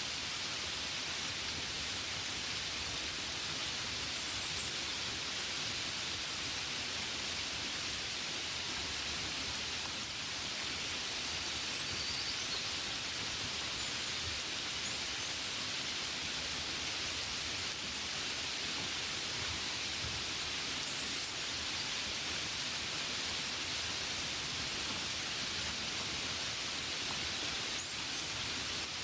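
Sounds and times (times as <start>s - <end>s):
rain on a window: 0.1s - 29.0s.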